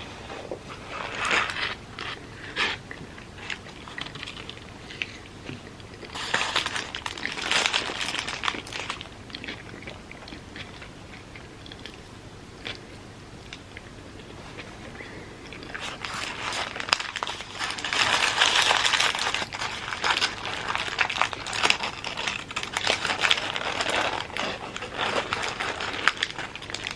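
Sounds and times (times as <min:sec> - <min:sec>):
wet chewing: 0:01.5 - 0:26.9.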